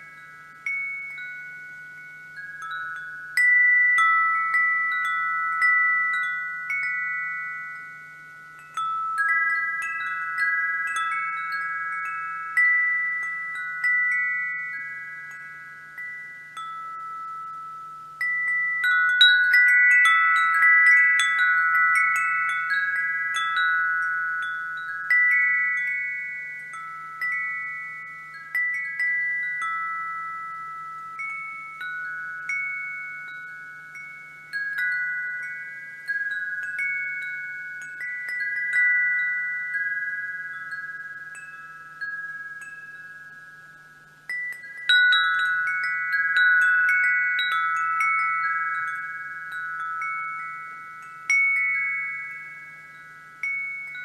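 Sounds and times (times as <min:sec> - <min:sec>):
wind chimes ringing: 0:00.0 - 0:54.0.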